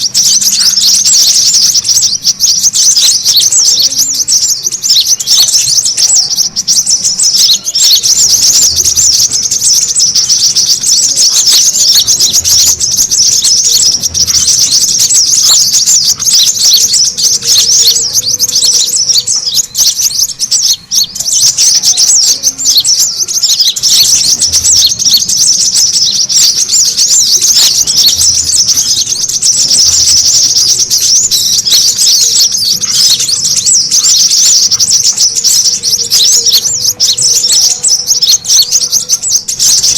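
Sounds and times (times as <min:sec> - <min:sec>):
sunbirds chattering: 0:00.0 - 0:39.9.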